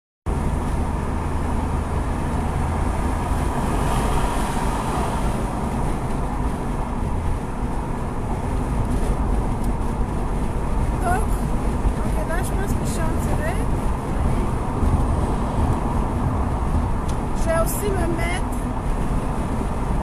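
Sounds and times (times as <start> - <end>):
car cabin road and engine noise: 0.3 - 20.0.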